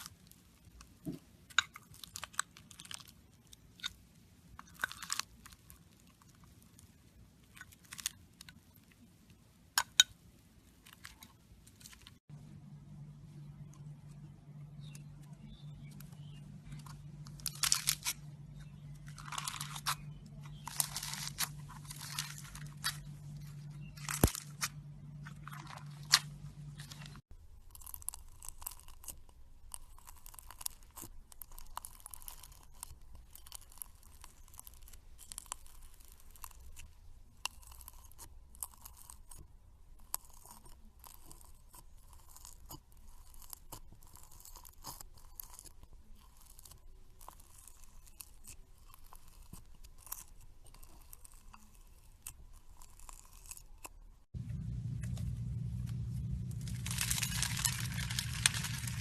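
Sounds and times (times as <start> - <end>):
slime crunching and crackling: 0.0 - 9.1, 14.8 - 59.0
low steady hum: 0.0 - 59.0.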